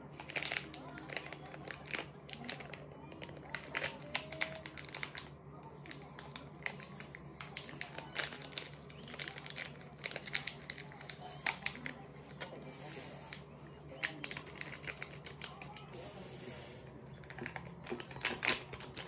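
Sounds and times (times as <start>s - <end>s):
plastic sachet crinkling: 0.0s - 16.0s, 17.1s - 19.0s.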